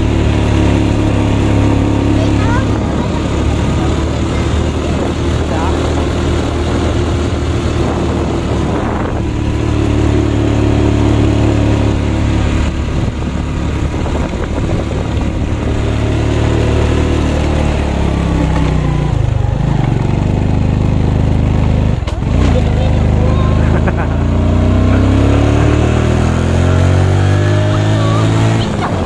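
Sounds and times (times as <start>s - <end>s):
motorcycle engine under load: 0.0s - 29.0s.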